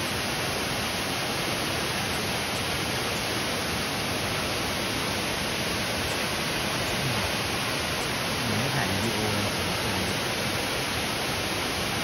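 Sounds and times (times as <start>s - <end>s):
waterfall pouring into pool: 0.0s - 12.0s.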